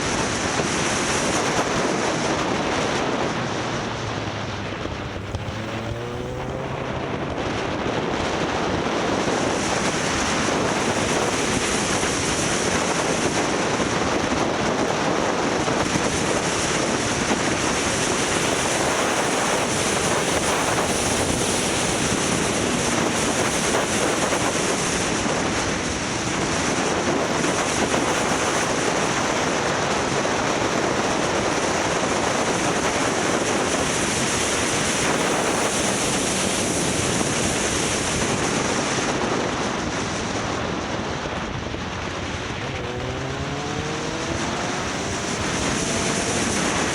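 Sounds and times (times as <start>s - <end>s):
motorcycle engine speeding up: 0.0s - 46.9s
wind rushing over microphone: 0.0s - 46.9s.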